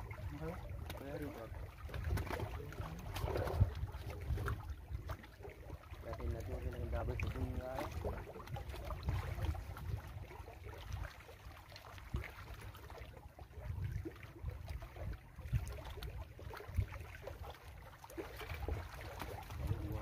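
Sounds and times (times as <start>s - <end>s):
short sharp splashes: 0.0s - 20.0s
waves lapping against rocks: 0.0s - 20.0s
wind rumbling on microphone: 0.0s - 20.0s.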